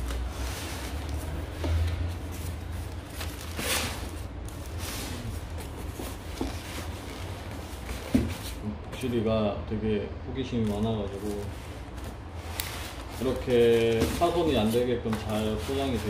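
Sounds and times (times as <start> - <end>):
cardboard rubbing and scraping: 0.2 - 8.6, 11.1 - 16.0.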